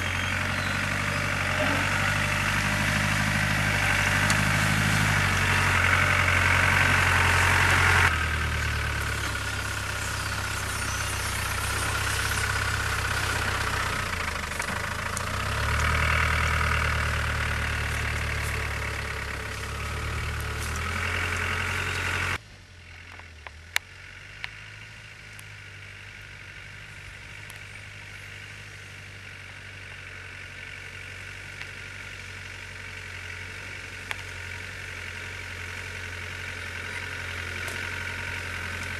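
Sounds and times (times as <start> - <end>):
turbodiesel engine at low revs: 0.0 - 38.9.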